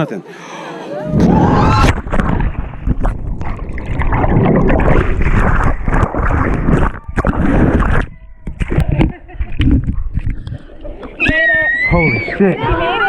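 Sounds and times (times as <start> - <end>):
water churning: 1.1 - 13.0.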